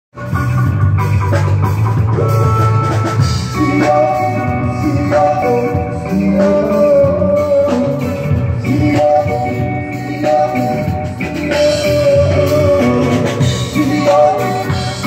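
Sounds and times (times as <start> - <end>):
reggae band playing: 0.1 - 15.0
heavy bass line: 0.2 - 15.0.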